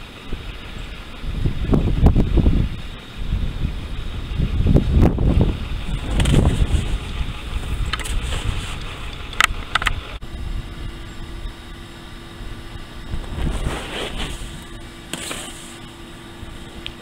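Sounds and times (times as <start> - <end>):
wind gusting against microphone: 0.0 - 15.1
steady faint hum: 0.0 - 17.0.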